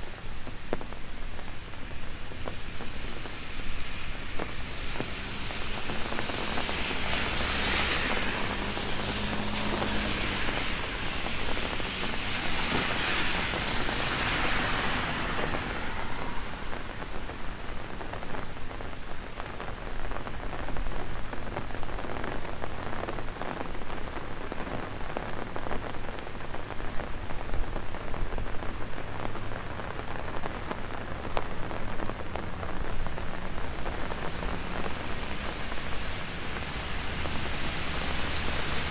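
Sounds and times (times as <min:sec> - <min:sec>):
heavy rain on an umbrella: 0:00.0 - 0:38.9.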